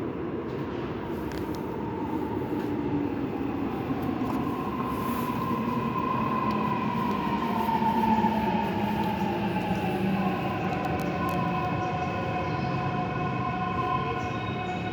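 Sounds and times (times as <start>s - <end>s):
electric train pulling in: 0.0s - 14.9s.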